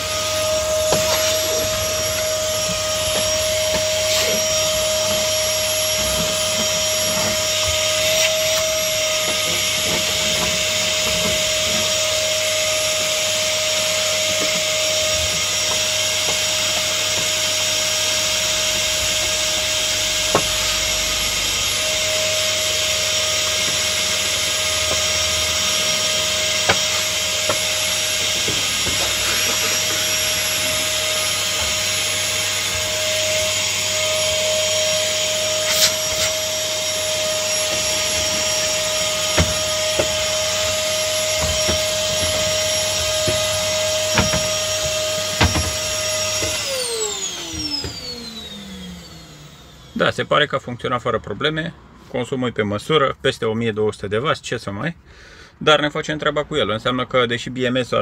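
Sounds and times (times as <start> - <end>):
vacuum cleaner running: 0.0 - 50.5.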